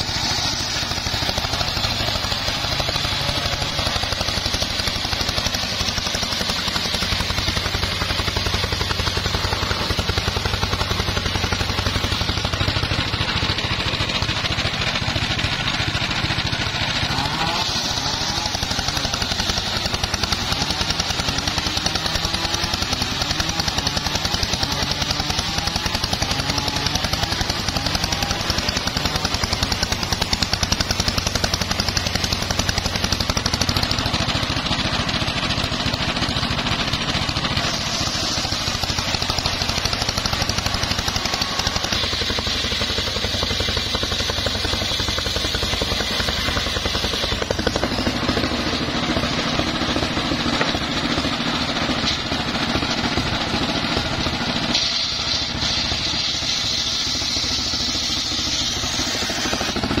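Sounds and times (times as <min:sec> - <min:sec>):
circular saw cutting wood: 0:00.0 - 1:00.0
engine drone: 0:00.0 - 1:00.0.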